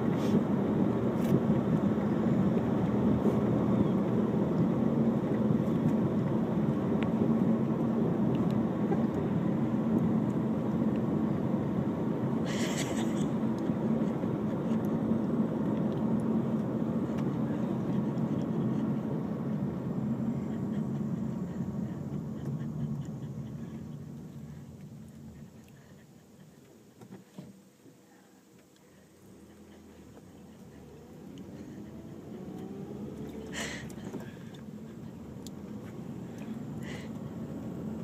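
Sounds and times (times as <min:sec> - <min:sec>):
car road and engine noise: 0:00.0 - 0:38.0.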